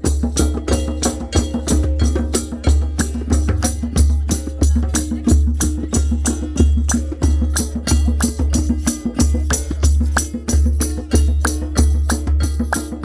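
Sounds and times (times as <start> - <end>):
hand percussion strikes: 0.0 - 13.0
instrumental melody: 0.0 - 13.0.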